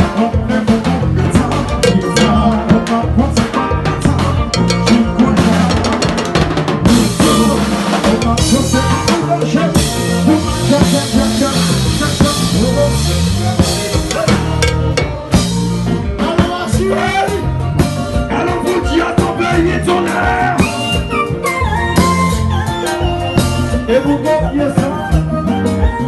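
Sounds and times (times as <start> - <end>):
drum kit: 0.0 - 26.0
electric bass line: 0.0 - 26.0
live band playing: 0.0 - 26.0.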